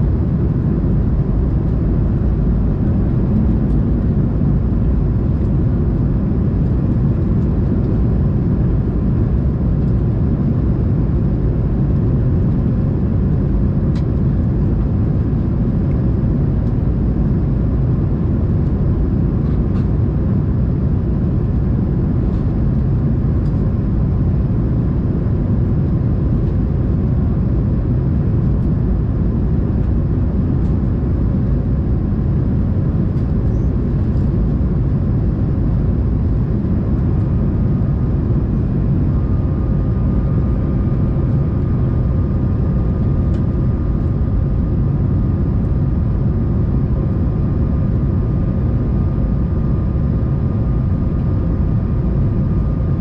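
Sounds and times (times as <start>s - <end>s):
aircraft cabin airflow and engines: 0.0s - 53.0s.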